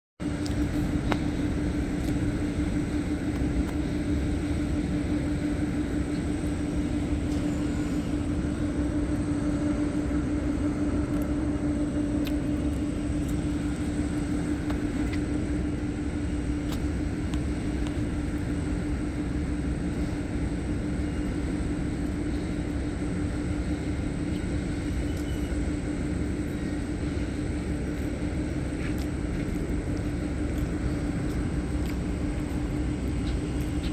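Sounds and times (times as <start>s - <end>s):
mechanical drone: 0.2s - 33.9s.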